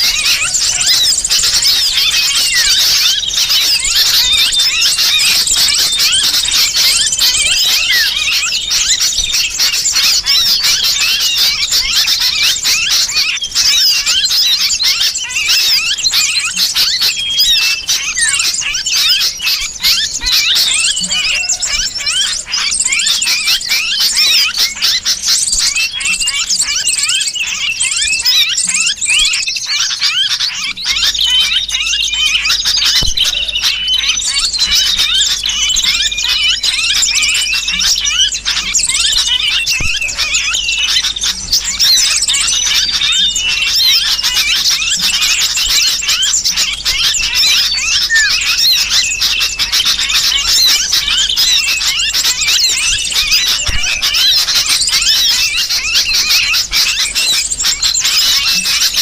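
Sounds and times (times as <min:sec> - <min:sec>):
bulbul calls: 0:00.0 - 0:59.0
small birds chirping: 0:00.0 - 0:59.0
trapped bird squealing: 0:00.0 - 0:59.0.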